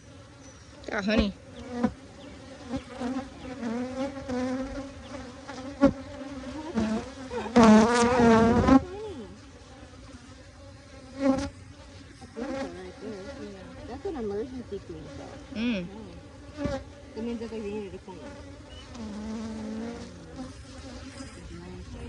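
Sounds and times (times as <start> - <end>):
bee flying close past: 0.0 - 22.0
honeybees buzzing: 0.0 - 22.0.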